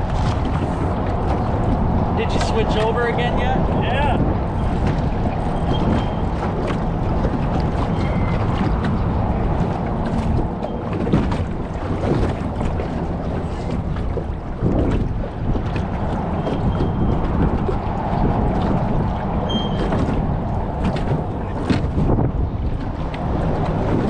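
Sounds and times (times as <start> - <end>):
water sloshing against hull: 0.0 - 24.0
wind buffeting microphone: 0.0 - 24.0.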